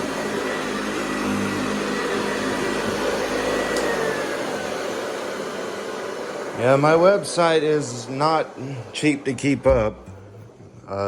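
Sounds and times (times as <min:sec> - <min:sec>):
upright vacuum cleaner running: 0:00.0 - 0:11.0.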